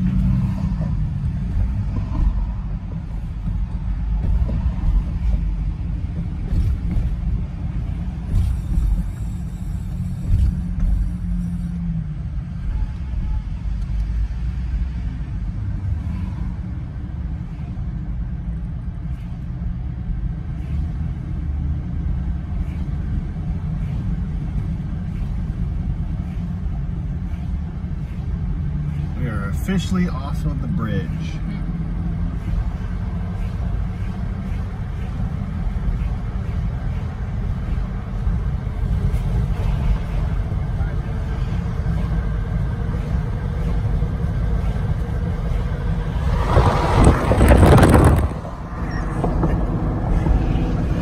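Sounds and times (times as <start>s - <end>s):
car driving interior rumble: 0.0s - 51.0s.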